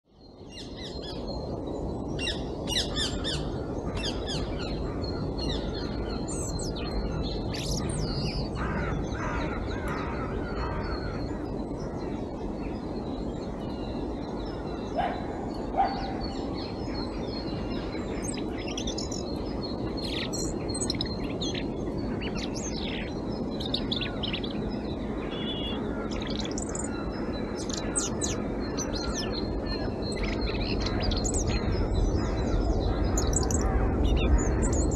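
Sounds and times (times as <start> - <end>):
robin singing: 0.2 - 34.9
low background rumble: 0.8 - 34.9.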